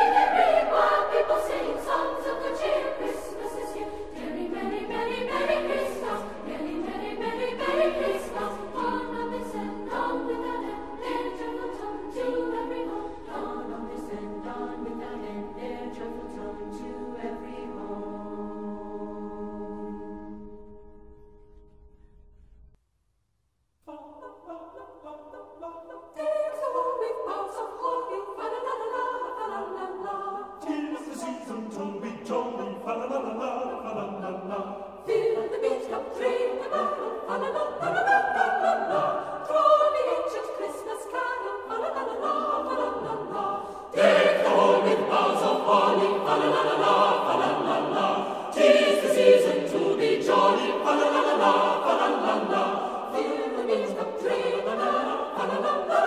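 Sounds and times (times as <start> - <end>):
choir singing slow piece: 0.0 - 21.3, 23.8 - 56.0.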